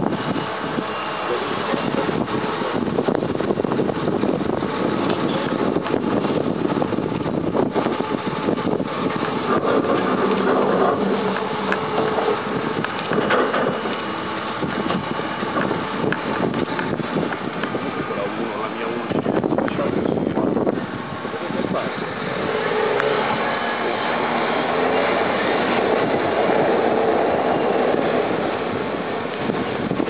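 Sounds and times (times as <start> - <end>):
diesel engine running: 0.0 - 30.0
wind buffeting microphone: 0.0 - 30.0.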